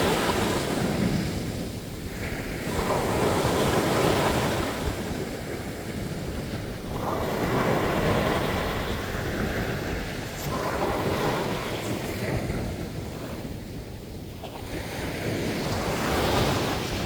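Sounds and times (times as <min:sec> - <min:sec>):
ocean waves breaking on beach: 0:00.0 - 0:17.0.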